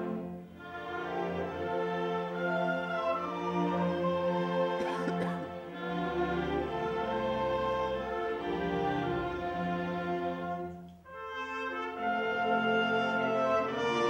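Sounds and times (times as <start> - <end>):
orchestra with bowed strings: 0.0 - 14.0.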